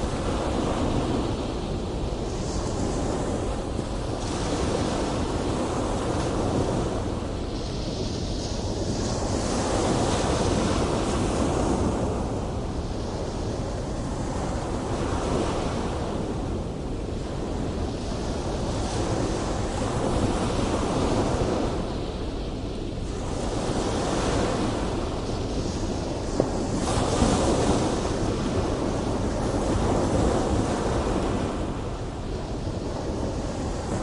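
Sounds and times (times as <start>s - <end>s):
wind noise on microphone: 0.0s - 34.0s.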